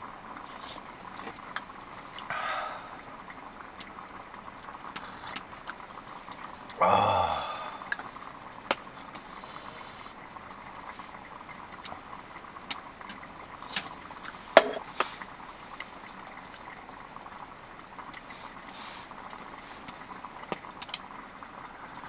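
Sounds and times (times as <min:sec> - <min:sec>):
rain on a tent: 0:00.0 - 0:22.0.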